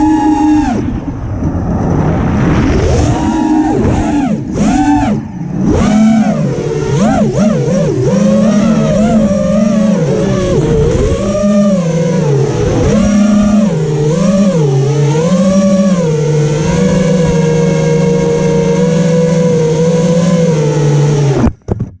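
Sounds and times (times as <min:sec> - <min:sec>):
drone motors whining: 0:00.0 - 0:21.6.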